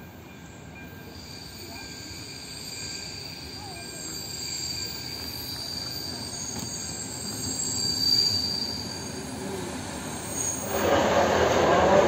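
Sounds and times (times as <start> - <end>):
train rumble: 0.0 - 12.0
high-pitched brake squeal: 1.0 - 12.0.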